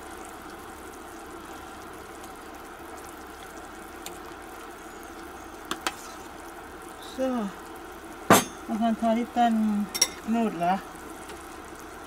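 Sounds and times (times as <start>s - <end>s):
broth boiling: 0.0s - 12.0s.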